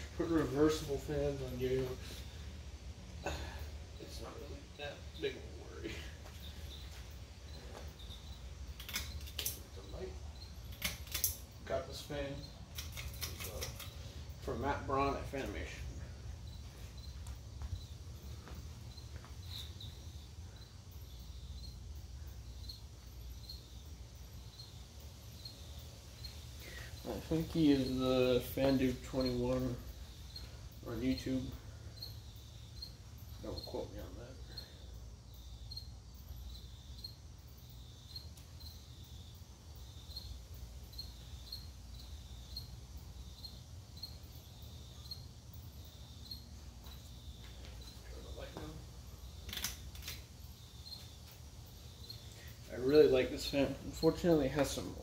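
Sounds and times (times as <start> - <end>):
ceiling fan humming: 0.0 - 55.0.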